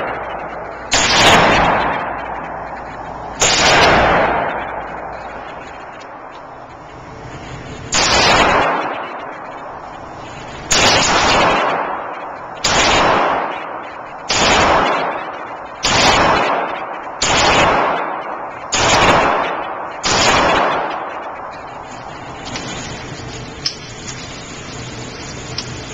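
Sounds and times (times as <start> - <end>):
pistol shots echoing indoors: 0.0 - 6.8, 7.7 - 23.2.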